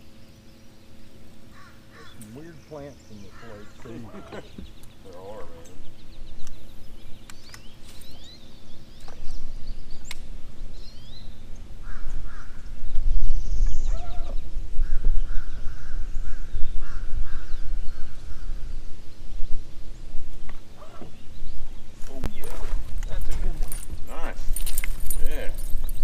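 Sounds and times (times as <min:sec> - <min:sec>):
birds chirping and calling: 0:00.0 - 0:26.0
steady low rumble: 0:00.0 - 0:26.0.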